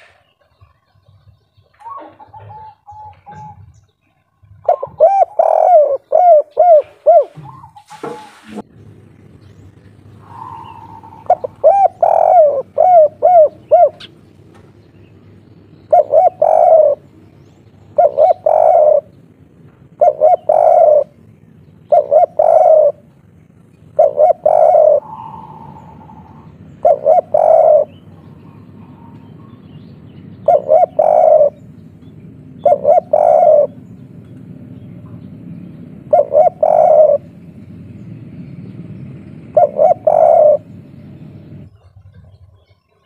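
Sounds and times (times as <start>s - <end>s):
dove cooing: 1.0s - 8.6s, 9.7s - 14.5s, 15.1s - 43.0s.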